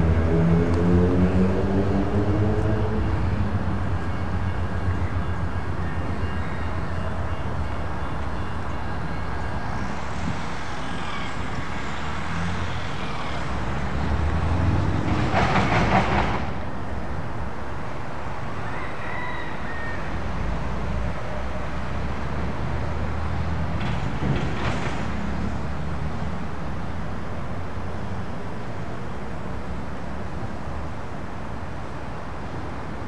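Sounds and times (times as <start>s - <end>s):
low rumble of approaching train: 0.0s - 33.0s
street traffic: 0.0s - 33.0s.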